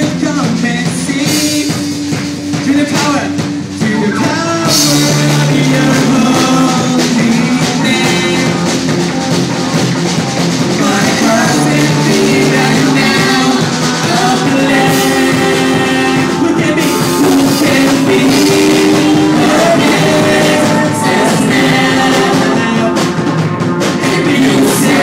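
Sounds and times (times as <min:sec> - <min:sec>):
person singing into a microphone: 0:00.0 - 0:25.0
rock band playing: 0:00.0 - 0:25.0.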